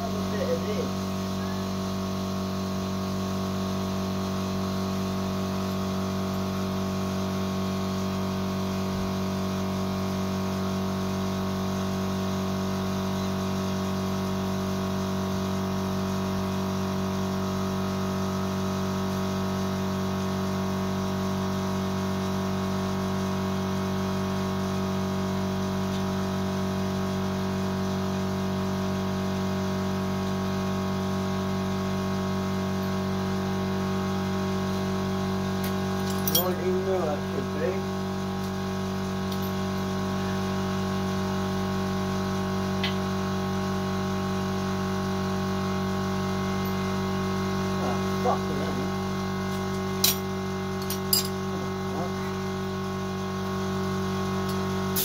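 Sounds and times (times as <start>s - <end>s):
air compressor humming: 0.0s - 55.0s.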